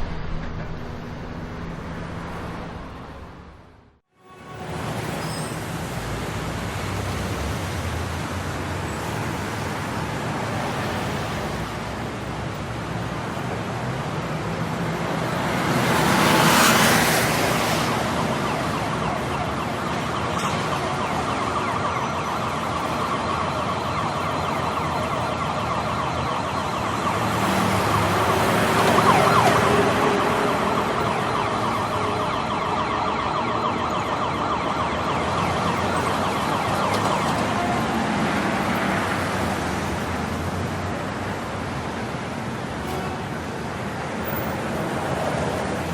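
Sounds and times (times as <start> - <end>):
road traffic roar: 0.0 - 45.9
emergency vehicle siren: 1.0 - 45.9.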